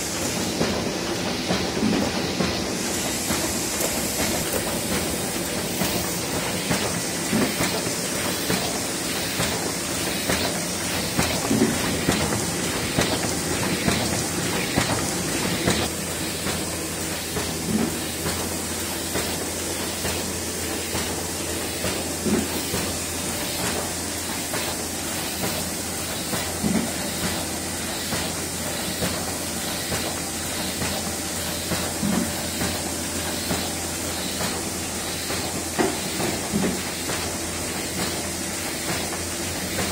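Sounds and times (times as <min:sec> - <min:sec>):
printing press clatter and hiss: 0:00.0 - 0:39.9.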